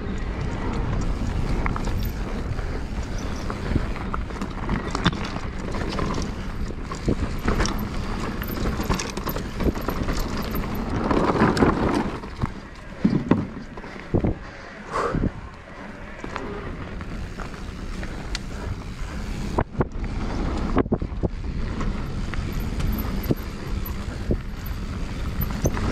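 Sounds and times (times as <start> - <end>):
bike rattling over bumps: 0.0 - 14.4, 15.6 - 25.9
bike tyres on dirt and stones: 0.0 - 25.9
wind rumble on microphone: 0.0 - 25.9.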